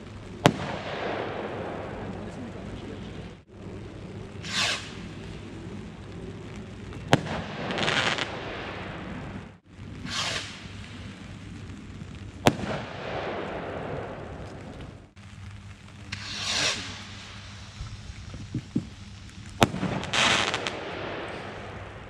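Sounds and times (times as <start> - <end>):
fireworks bangs: 0.0 - 3.5, 4.3 - 15.2, 15.9 - 22.0
fireworks whooshing: 0.0 - 22.0.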